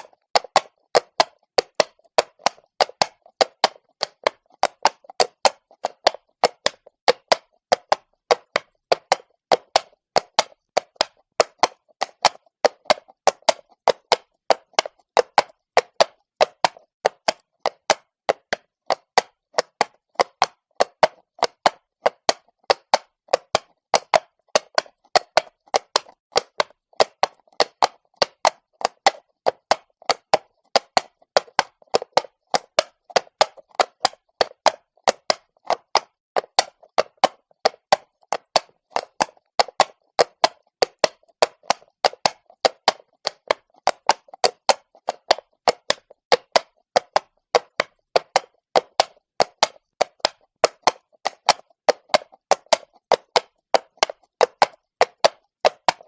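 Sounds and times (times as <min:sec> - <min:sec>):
horse hooves clopping on cobblestones: 0:00.0 - 0:56.0.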